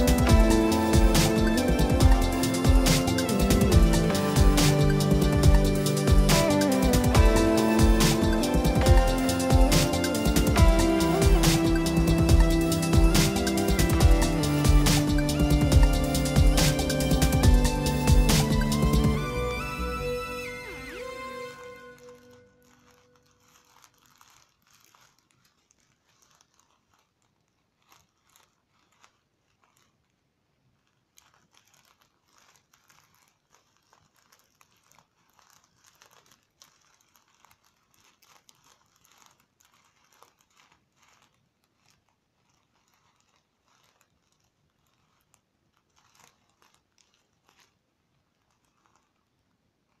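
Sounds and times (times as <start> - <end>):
plastic squishy crinkling: 0.0 - 19.4, 20.4 - 50.0.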